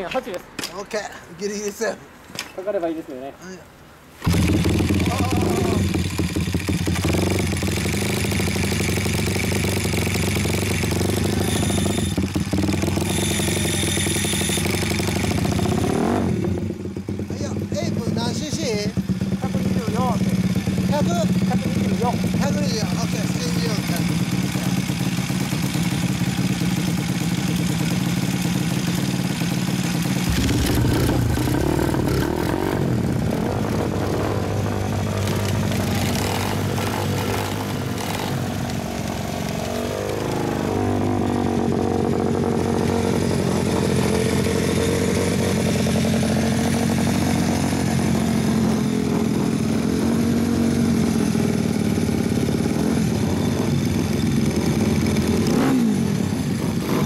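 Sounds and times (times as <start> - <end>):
small motorcycle engine running: 4.2 - 57.0.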